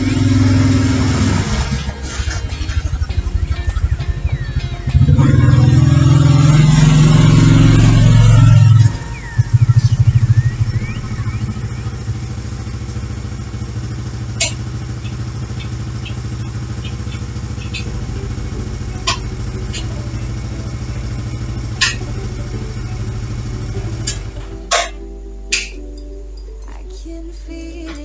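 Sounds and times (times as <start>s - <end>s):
engine idling: 0.0s - 26.4s.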